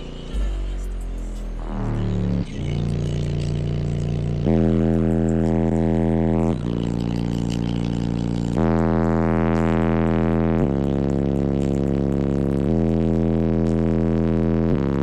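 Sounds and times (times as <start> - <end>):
bass-heavy music on subwoofers: 0.0 - 15.0.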